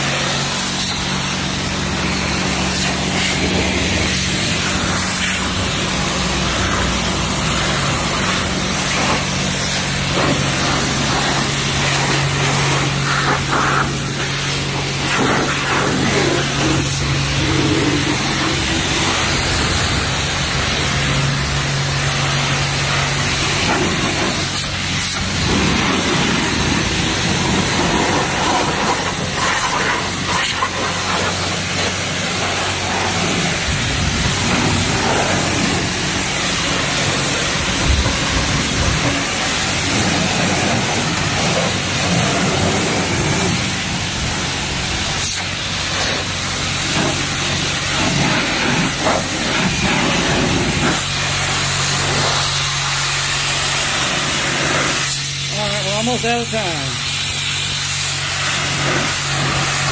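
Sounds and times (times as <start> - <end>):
steady low hum: 0.0 - 52.9
pressure washer spraying water: 0.0 - 59.9.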